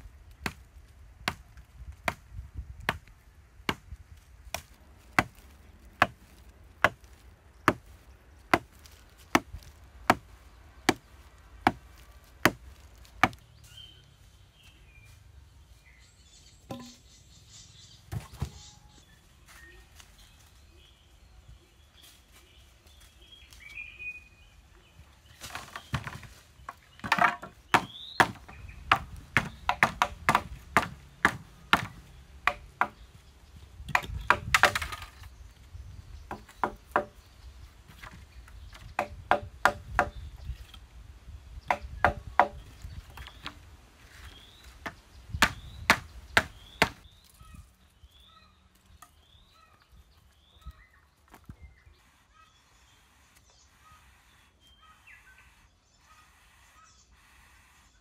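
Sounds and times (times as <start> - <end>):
birds chirping: 4.5 - 58.0.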